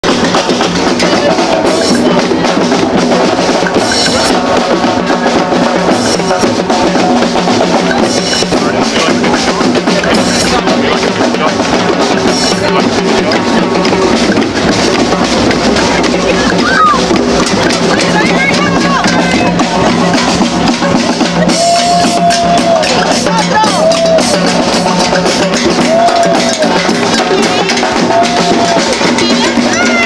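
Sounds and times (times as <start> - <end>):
drums playing steady rhythm: 0.0 - 30.0
crashing cymbal accents: 0.1 - 29.7.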